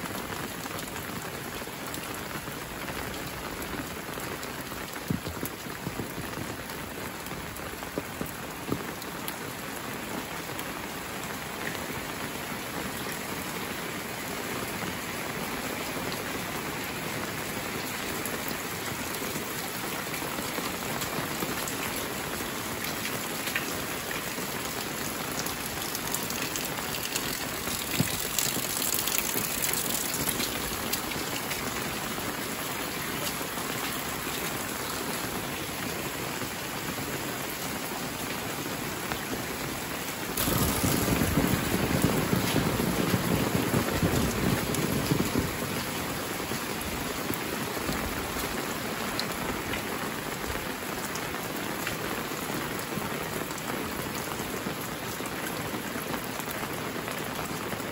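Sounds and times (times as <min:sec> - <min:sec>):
rain falling on wet pavement: 0:00.0 - 0:57.9.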